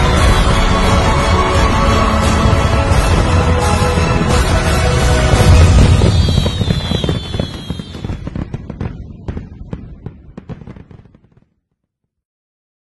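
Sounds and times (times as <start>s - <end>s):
fireworks bangs and crackling: 0.0s - 11.8s.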